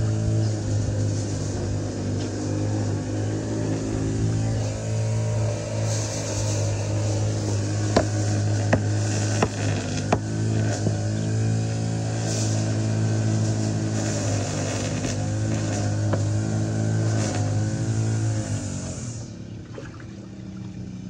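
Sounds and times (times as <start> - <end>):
drain-cleaning machine motor: 0.0 - 21.0.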